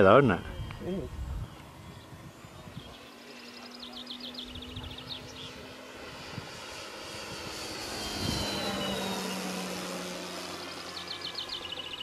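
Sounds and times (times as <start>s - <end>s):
model plane motor humming: 0.4s - 12.0s.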